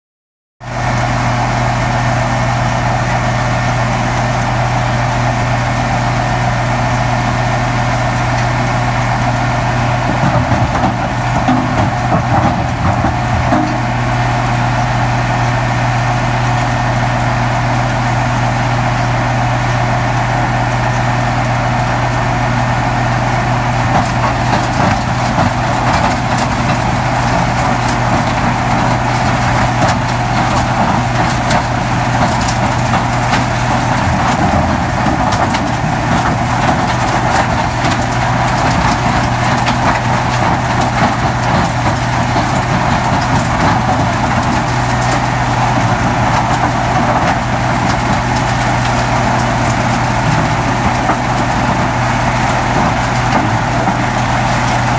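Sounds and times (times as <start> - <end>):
crusher droning: 4.9 - 19.5, 20.6 - 54.9.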